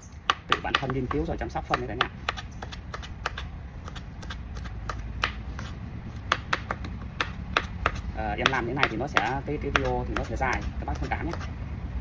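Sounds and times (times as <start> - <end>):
steady low rumble: 0.0 - 12.0
knife striking cutting board: 0.3 - 11.5.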